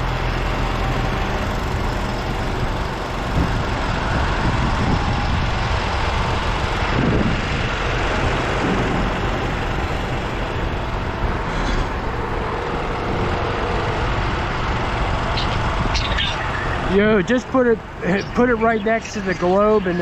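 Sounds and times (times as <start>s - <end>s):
crane truck engine rumbling: 0.0s - 20.0s.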